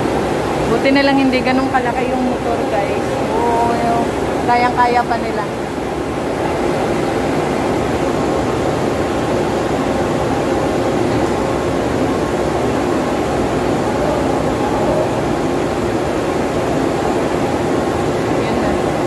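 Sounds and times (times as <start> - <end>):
faint hum tones: 0.0 - 19.0
industrial machinery drone: 0.0 - 19.0.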